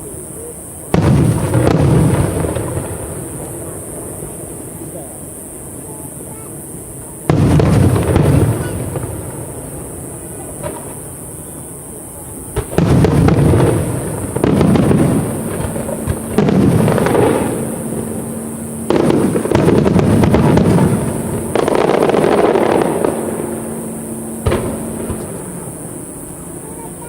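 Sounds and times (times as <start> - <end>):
sharp firework cracks: 0.9 - 5.1, 7.1 - 26.8
firework shells booming: 0.9 - 5.4, 6.6 - 27.0.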